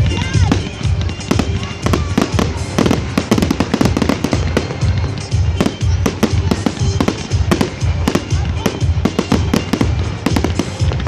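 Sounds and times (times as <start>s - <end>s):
background music: 0.0s - 11.0s
fireworks bangs and crackling: 0.0s - 11.0s.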